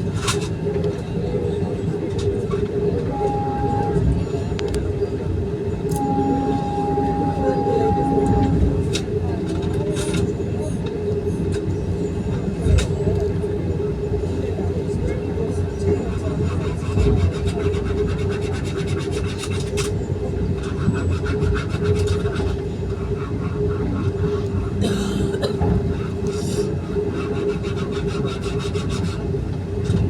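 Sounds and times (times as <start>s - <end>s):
train cabin rumble and hum: 0.0s - 30.0s.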